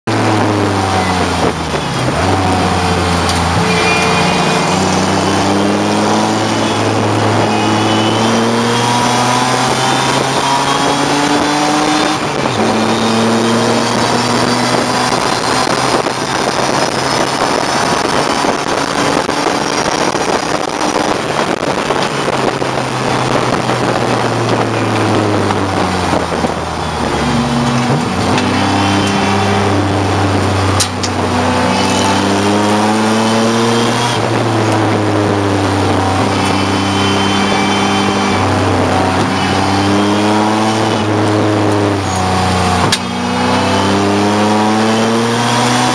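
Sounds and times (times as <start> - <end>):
race car engine shifting gears: 0.0 - 45.9
road and wind noise: 0.0 - 45.9.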